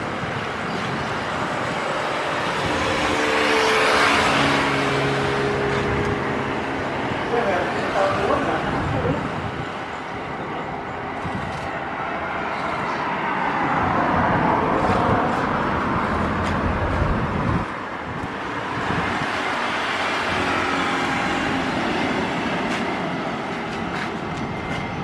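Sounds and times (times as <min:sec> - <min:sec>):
turboprop aircraft engines droning: 0:00.0 - 0:25.0.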